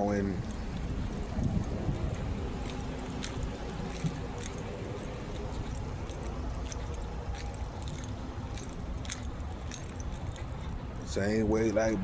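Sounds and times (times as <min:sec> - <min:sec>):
metallic jingling: 0:00.0 - 0:12.0
steady low rumble: 0:00.0 - 0:12.0.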